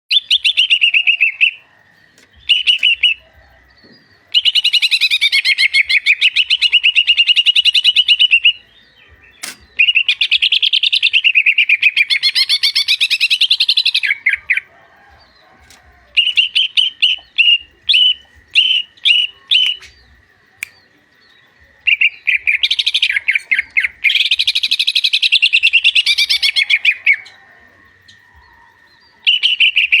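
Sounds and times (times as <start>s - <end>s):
bird warbling and chirping: 0.1s - 30.0s.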